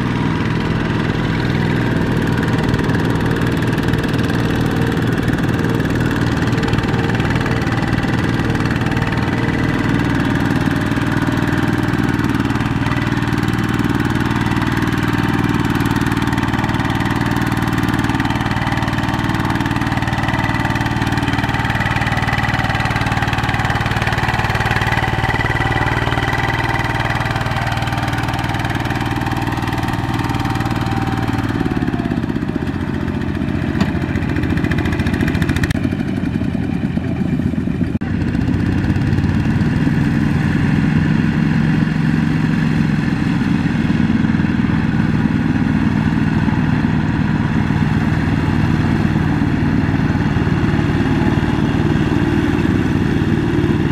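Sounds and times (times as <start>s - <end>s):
diesel engine straining under load: 0.0s - 53.9s.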